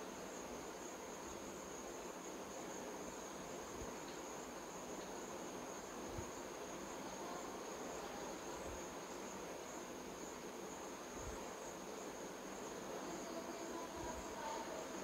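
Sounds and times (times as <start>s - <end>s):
insects chorus: 0.0s - 15.0s
low outdoor hiss: 0.0s - 15.0s.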